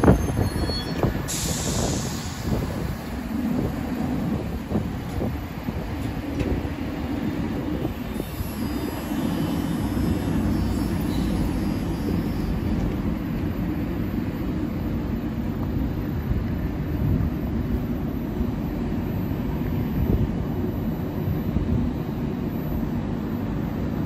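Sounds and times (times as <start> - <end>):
tram low drone: 0.0 - 24.0.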